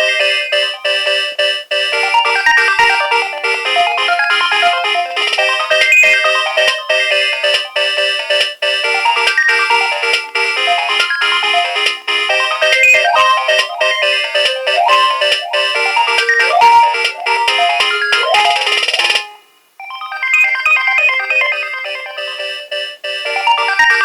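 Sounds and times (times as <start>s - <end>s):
polyphonic phone ringtone: 0.0s - 24.0s.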